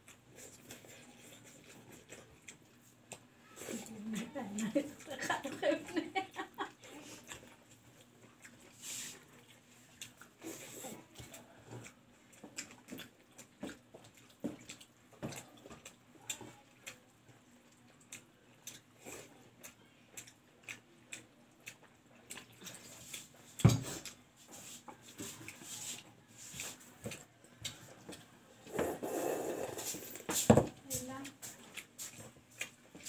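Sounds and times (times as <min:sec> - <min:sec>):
chewing and lip smacks: 0:00.0 - 0:28.4, 0:31.2 - 0:33.0.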